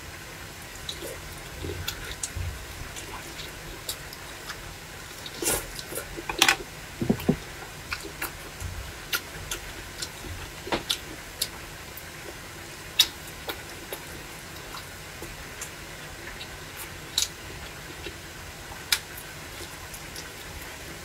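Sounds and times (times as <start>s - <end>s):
chewing fried food: 0.8s - 21.0s.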